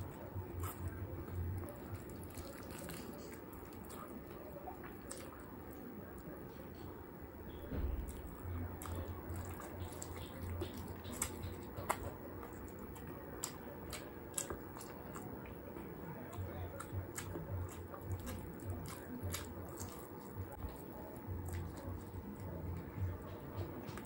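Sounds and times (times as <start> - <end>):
chewing chicken: 0.0 - 24.0.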